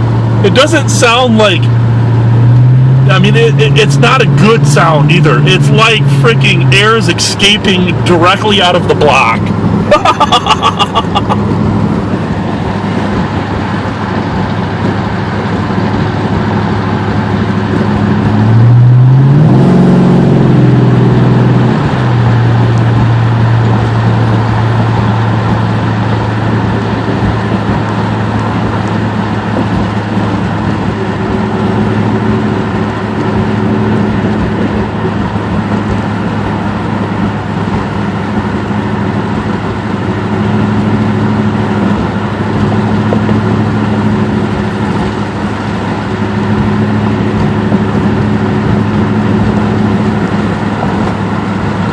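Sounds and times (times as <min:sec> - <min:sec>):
engine with exhaust leak: 0:00.0 - 0:51.9.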